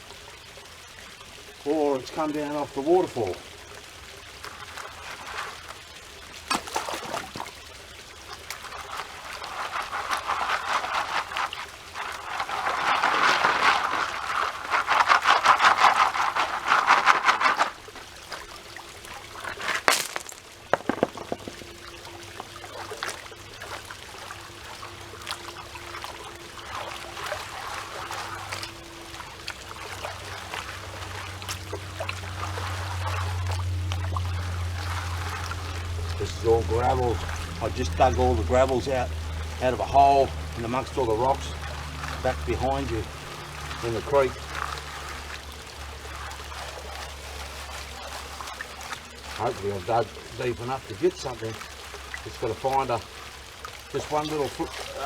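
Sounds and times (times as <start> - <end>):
water trickling and splashing: 0.0 - 55.0
gravel sloshing and rattling in pan: 1.2 - 55.0.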